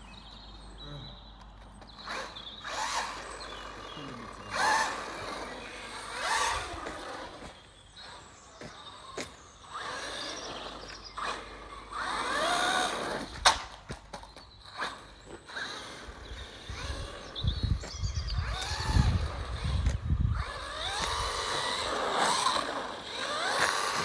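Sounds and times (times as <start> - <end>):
toy car electric motors whining: 1.8 - 24.0.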